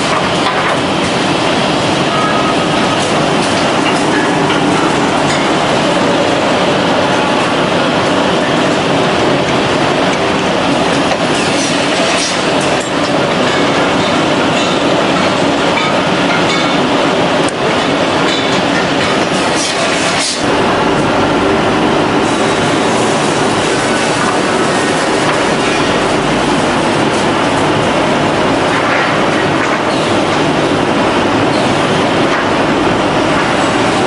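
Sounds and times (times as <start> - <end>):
machine running: 0.0 - 34.0.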